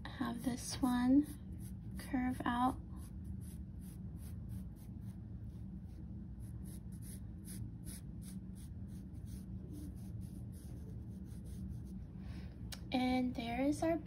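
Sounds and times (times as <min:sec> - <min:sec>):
low background hum: 0:00.0 - 0:14.0
pencil scratching on paper: 0:00.3 - 0:12.0.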